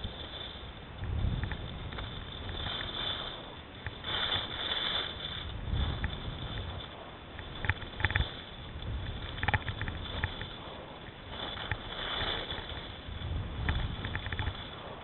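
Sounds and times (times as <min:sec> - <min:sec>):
skis scraping over packed snow: 0:00.0 - 0:15.0
wind rumbling on microphone: 0:00.0 - 0:15.0.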